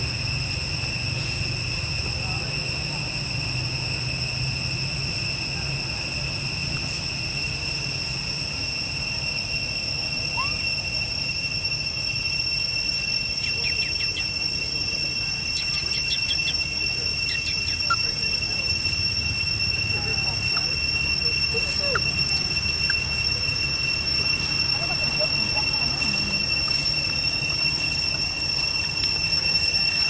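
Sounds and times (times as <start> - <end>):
insect chorus drone: 0.0 - 30.0
quick insect chirps: 0.0 - 30.0.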